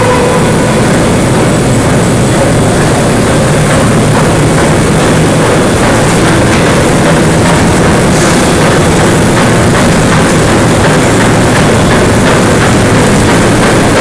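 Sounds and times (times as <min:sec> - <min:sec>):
overhead crane running: 0:00.0 - 0:14.0.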